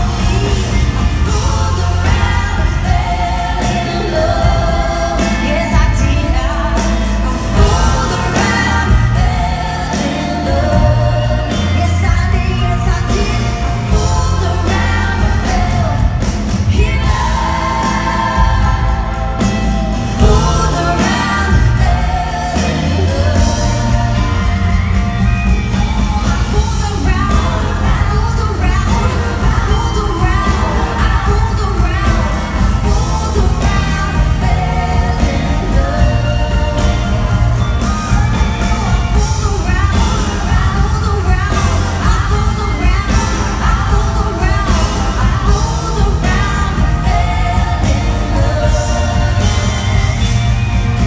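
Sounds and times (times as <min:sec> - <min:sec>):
live country rock band: 0:00.0 - 0:51.0
women singing: 0:00.0 - 0:51.0.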